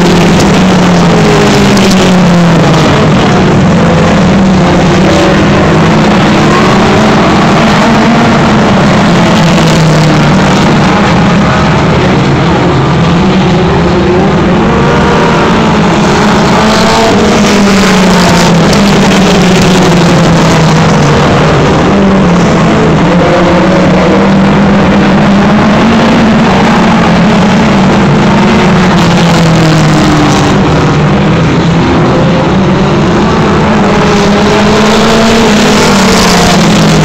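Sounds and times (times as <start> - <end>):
race car engines roaring: 0.0 - 37.0.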